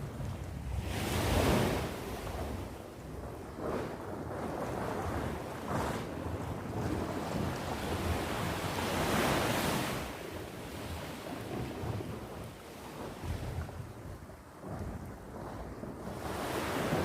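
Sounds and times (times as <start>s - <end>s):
sea waves washing on shore: 0.0s - 17.0s
wind rumble on microphone: 0.0s - 17.0s.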